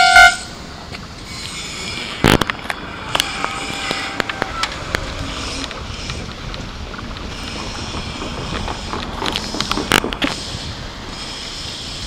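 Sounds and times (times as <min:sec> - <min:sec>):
train running noise: 0:00.0 - 0:12.0
train wheels clacking over rail joints: 0:00.0 - 0:12.0.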